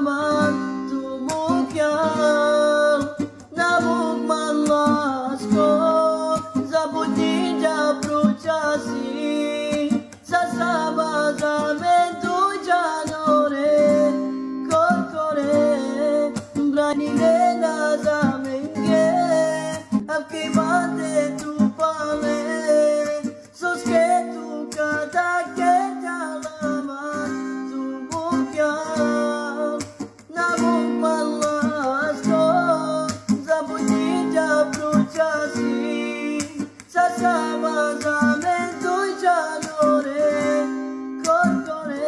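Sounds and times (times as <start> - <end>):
acoustic guitar strumming chords: 0.0 - 42.0
person singing: 0.0 - 42.0.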